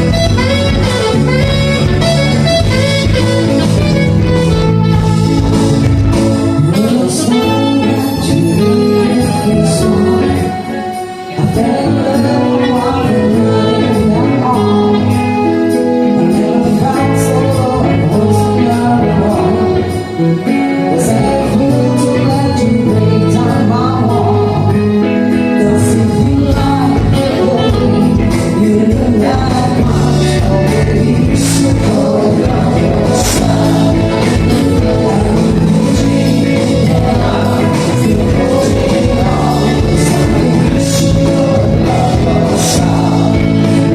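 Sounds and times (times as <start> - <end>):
live band with singing: 0.0 - 43.9.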